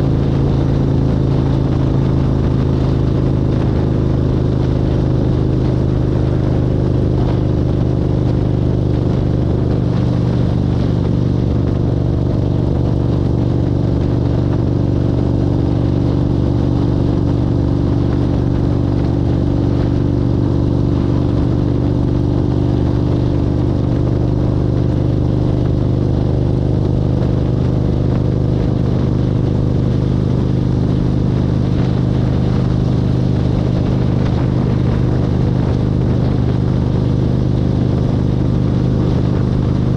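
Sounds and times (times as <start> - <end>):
car engine and tyre drone: 0.0 - 39.9
low hum tones: 0.0 - 39.9.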